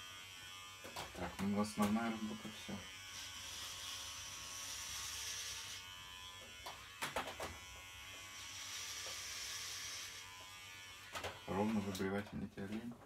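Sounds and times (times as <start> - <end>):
hair clippers buzzing: 0.0 - 12.2.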